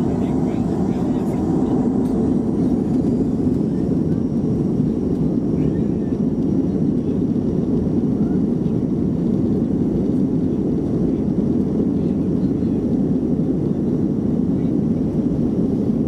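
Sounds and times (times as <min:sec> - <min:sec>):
jet engines rumbling in cabin: 0:00.0 - 0:16.0.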